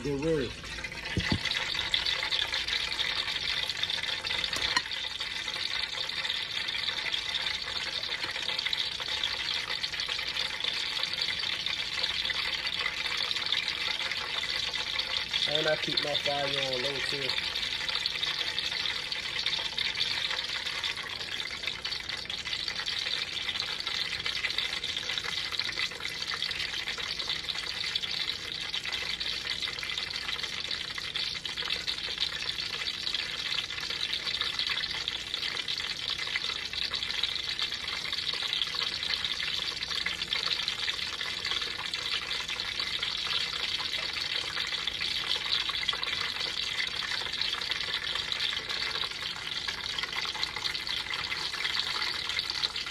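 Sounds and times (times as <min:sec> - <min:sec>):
grease sizzling in a pan: 0:00.0 - 0:52.9.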